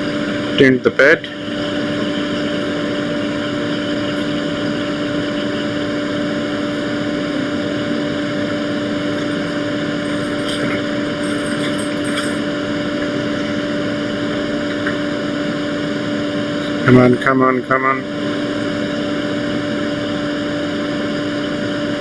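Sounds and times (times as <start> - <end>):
extractor fan whirring: 0.0 - 22.0.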